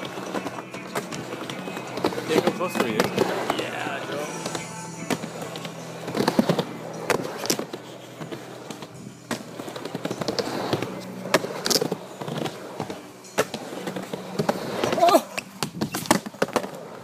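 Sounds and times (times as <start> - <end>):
skateboard wheels rolling on wood: 0.0 - 17.0.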